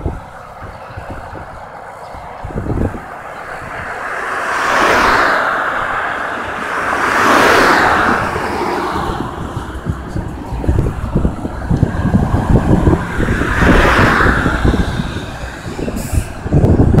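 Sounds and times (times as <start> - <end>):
vehicles passing by: 0.0 - 17.0
wind buffeting microphone: 0.0 - 17.0.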